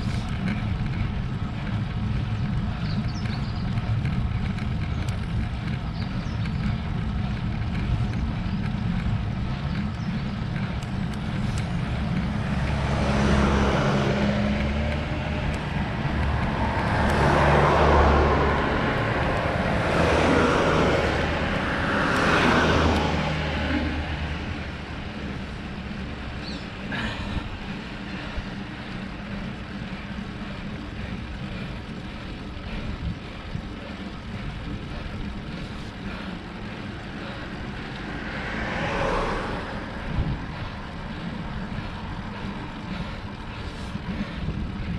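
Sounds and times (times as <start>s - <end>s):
cars passing: 0.0s - 44.9s
wind and road noise rumble: 0.0s - 44.9s.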